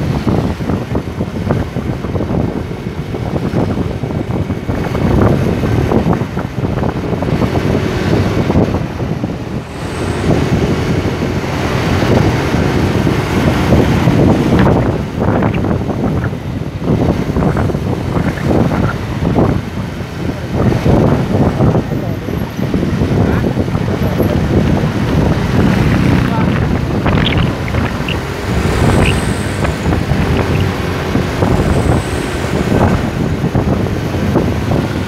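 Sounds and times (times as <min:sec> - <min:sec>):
traffic engine and road noise: 0:00.0 - 0:35.0
wind buffeting microphone: 0:00.0 - 0:35.0.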